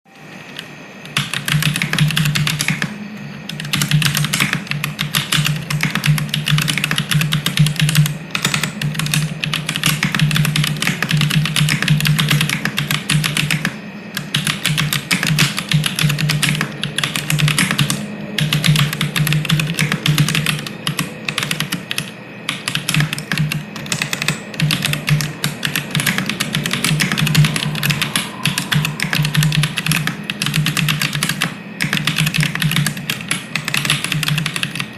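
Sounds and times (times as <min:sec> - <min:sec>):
mechanical keyboard typing: 0:00.6 - 0:34.9.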